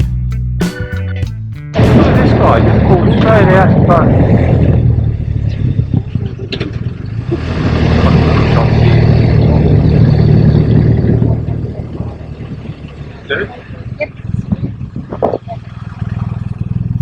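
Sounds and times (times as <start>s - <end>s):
motorcycle engine running: 0.0s - 17.0s
wind noise: 1.8s - 17.0s.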